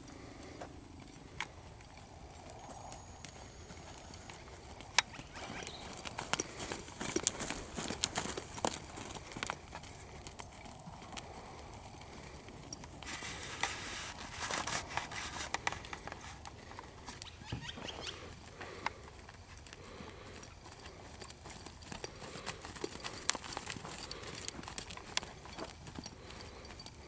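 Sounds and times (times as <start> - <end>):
hoofbeats on dirt: 0.0 - 27.0.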